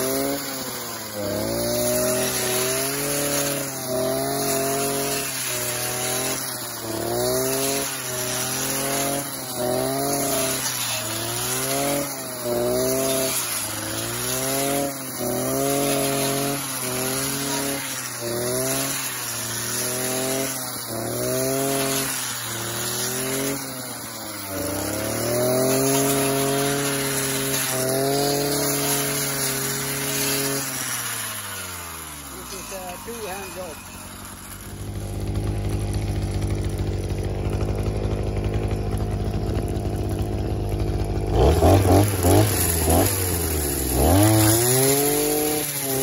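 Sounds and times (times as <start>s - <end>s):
brush cutter cutting grass: 0.0s - 46.0s.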